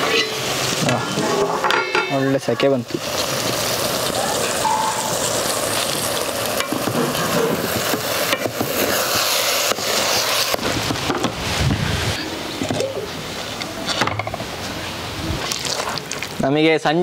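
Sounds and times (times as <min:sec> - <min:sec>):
food sizzling in metal pot: 0:00.0 - 0:16.5.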